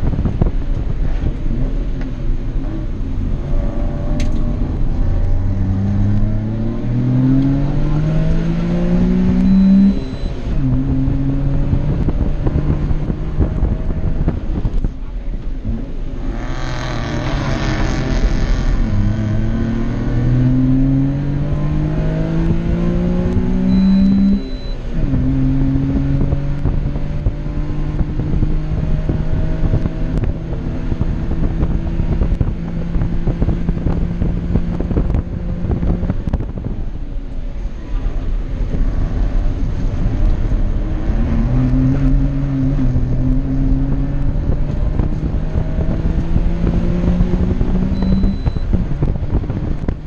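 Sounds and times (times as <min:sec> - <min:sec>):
small car engine revving: 0:03.5 - 0:14.8, 0:16.2 - 0:36.6, 0:39.1 - 0:50.0.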